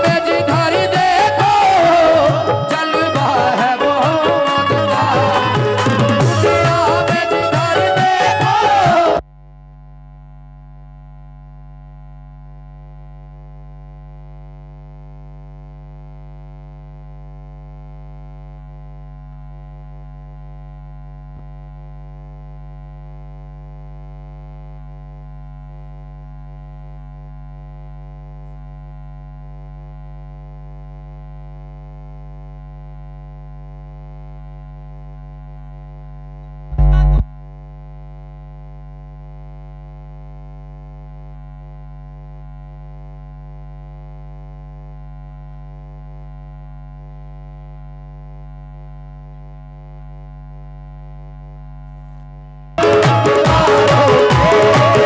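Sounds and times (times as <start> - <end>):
electrical hum and buzz: 8.6 - 53.0.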